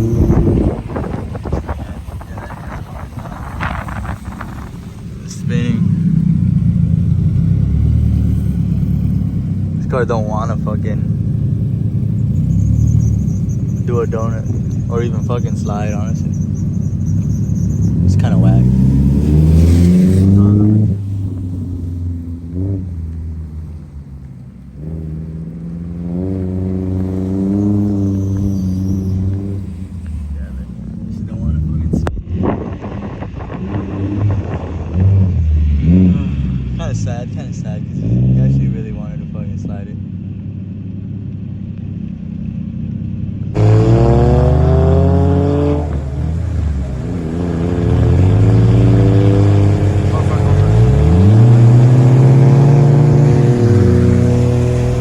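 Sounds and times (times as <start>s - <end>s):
car engine revving: 0.0s - 42.5s, 43.3s - 55.0s.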